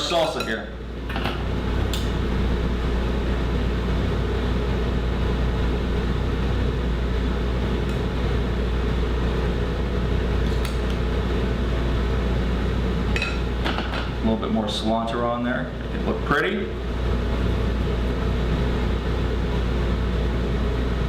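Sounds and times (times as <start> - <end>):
ventilation fan humming: 0.0 - 21.0.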